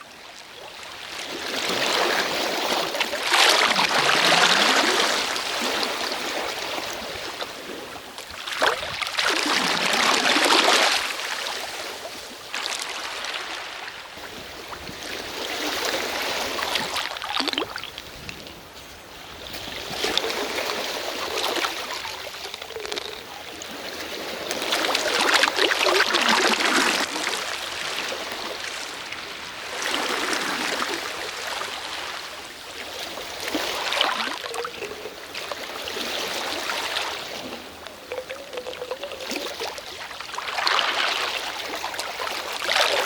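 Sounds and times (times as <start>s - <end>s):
sea waves washing onto shore: 0.9s - 43.0s.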